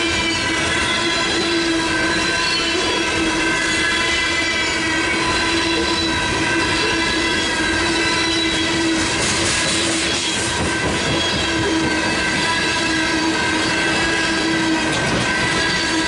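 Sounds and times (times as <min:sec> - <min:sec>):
crossing bells ringing: 0:00.0 - 0:16.0
freight train rolling past: 0:00.0 - 0:16.0.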